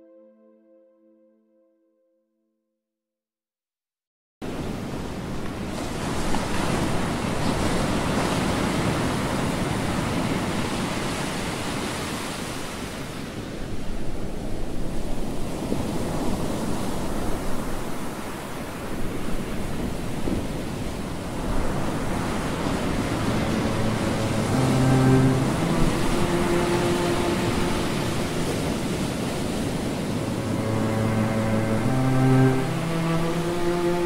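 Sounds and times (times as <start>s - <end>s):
waves breaking and washing in: 4.4s - 34.0s.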